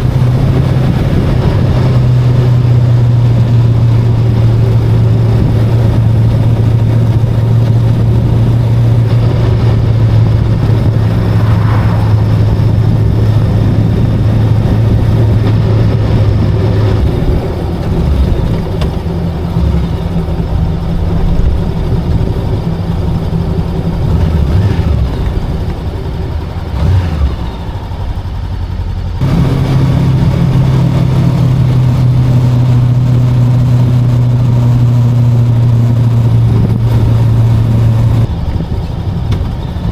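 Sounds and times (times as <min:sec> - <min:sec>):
wind noise: 0:00.0 - 0:28.0, 0:29.2 - 0:39.9
motorcycle engine droning: 0:00.0 - 0:39.9
road noise: 0:00.0 - 0:39.9.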